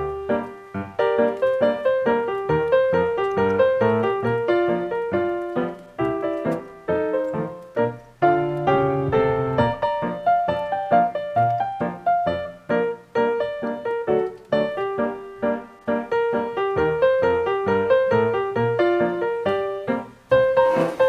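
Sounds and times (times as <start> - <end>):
lively piano music: 0.0 - 21.0.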